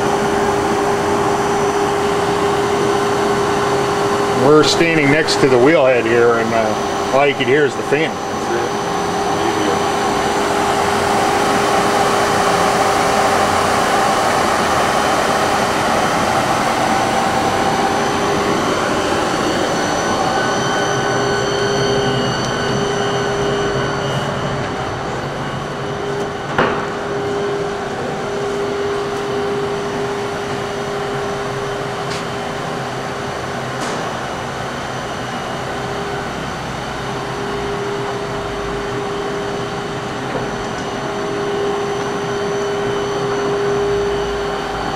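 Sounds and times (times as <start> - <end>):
grinder fan whirring: 0.0 - 44.9.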